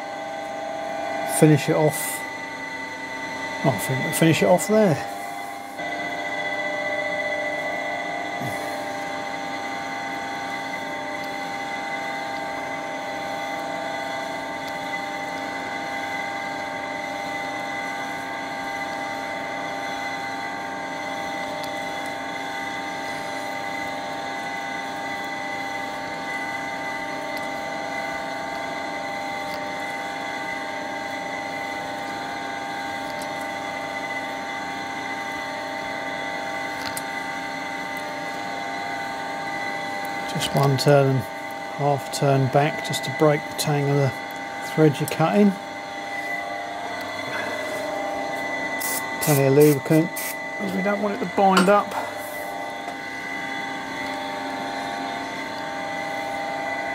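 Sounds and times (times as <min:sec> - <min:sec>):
milling machine humming: 0:00.0 - 0:56.9.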